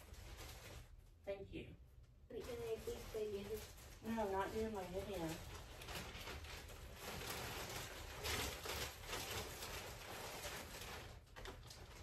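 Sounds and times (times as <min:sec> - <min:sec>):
plastic bag rustling: 0:00.0 - 0:01.4, 0:02.3 - 0:12.0.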